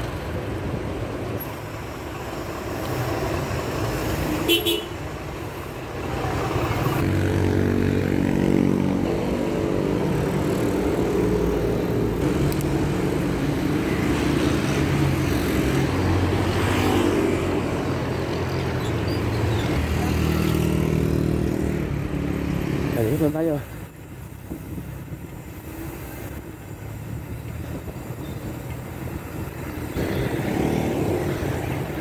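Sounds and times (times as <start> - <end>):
motorcycle engines passing: 2.6 - 32.0.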